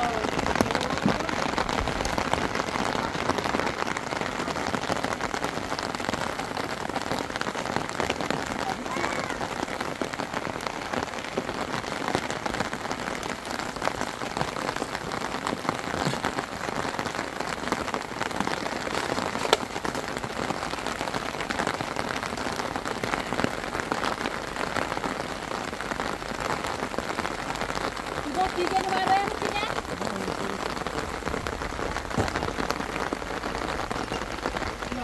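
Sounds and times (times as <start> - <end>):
raindrops ticking on a surface: 0.0 - 35.0
steady rain: 0.0 - 35.0.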